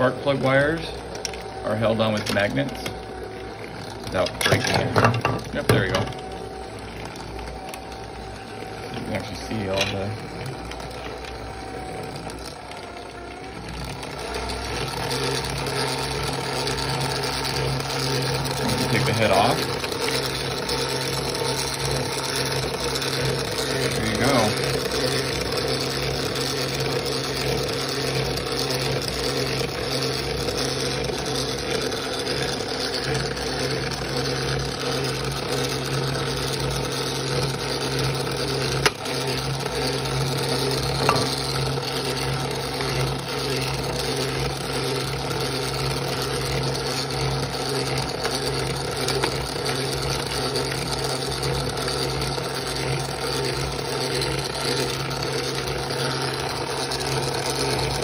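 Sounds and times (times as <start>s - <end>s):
model engine mechanical whir: 0.0s - 58.0s.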